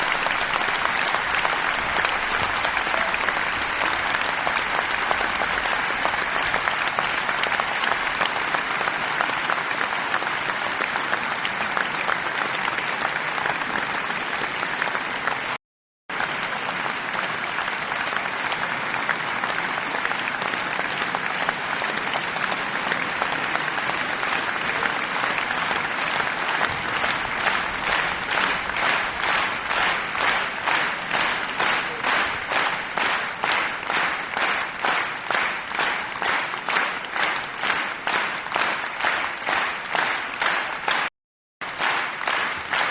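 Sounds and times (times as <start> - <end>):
crowd applauding: 0.0 - 42.9
rhythmic unison clapping: 0.0 - 42.9.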